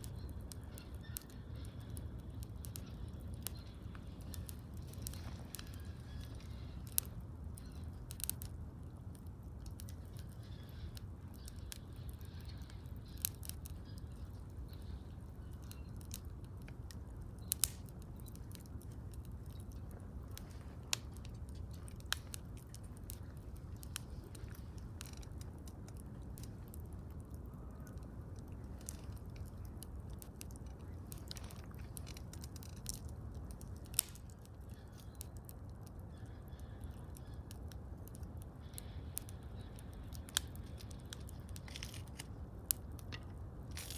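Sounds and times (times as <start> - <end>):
wood bonfire crackling: 0.0 - 43.9.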